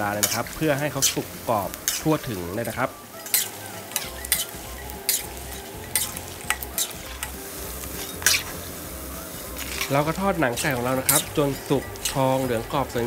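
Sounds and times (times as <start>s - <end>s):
chicken skin sizzling in oil: 0.0s - 13.0s
metal spatula scraping a pan: 0.0s - 13.0s.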